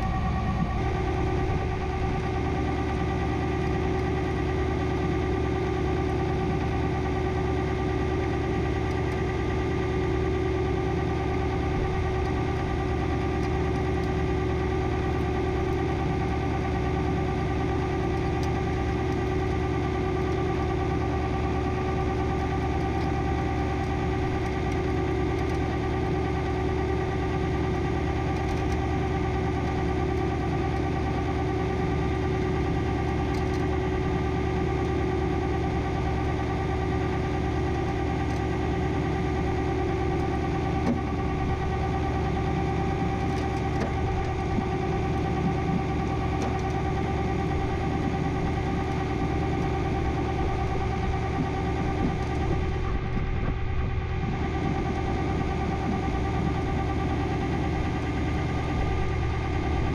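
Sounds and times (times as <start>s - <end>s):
tow truck engine running: 0.0s - 59.9s
winch whine: 0.0s - 59.9s.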